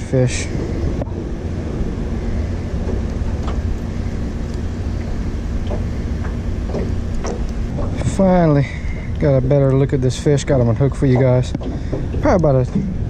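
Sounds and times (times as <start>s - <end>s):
engine running at low speed: 0.0s - 13.0s.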